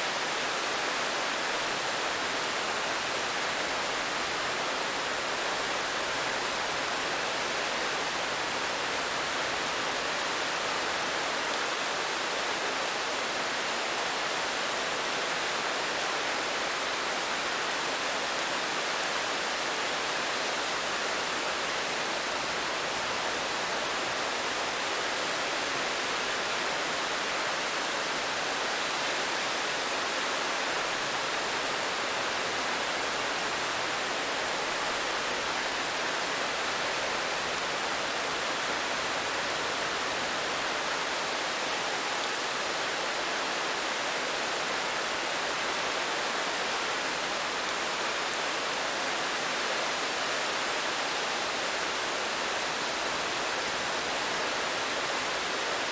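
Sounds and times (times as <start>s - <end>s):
steady rain hissing: 0.0s - 55.9s.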